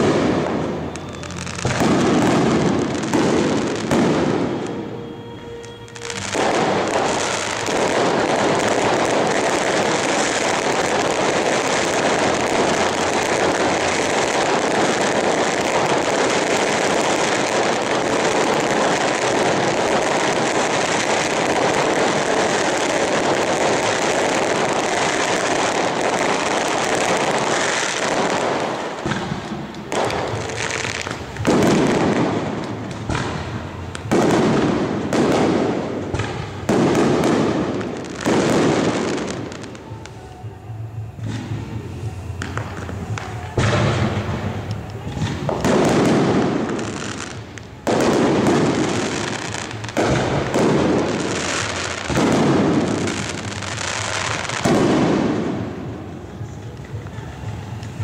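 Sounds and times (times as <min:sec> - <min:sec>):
fireworks booming: 0:00.0 - 0:58.0.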